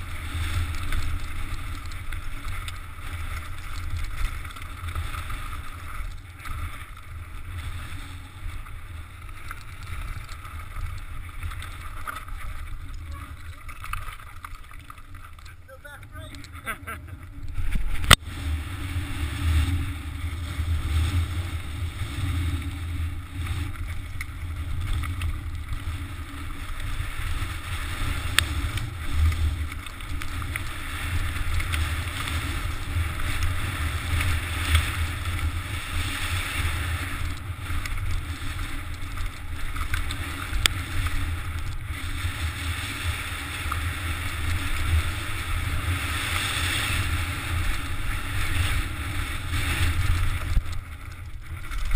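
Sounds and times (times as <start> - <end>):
bike tyres crunching over stones: 0.0 - 51.9.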